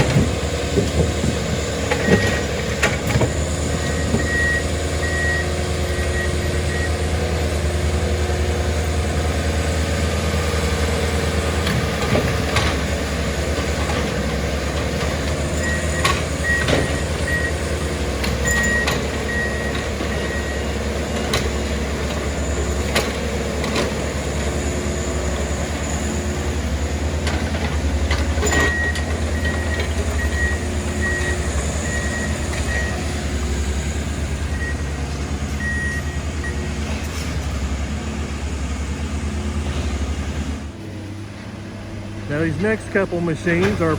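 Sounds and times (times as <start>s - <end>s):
diesel engines running: 0.0s - 43.9s.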